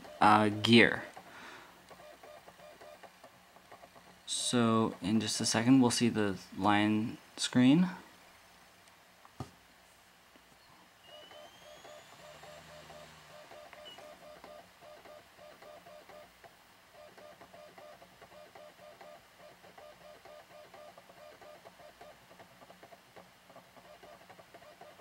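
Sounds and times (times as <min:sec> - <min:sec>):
optical drive seeking chatter: 0:00.0 - 0:06.1, 0:11.0 - 0:25.0
optical drive spinning whine: 0:00.0 - 0:06.1, 0:10.6 - 0:25.0.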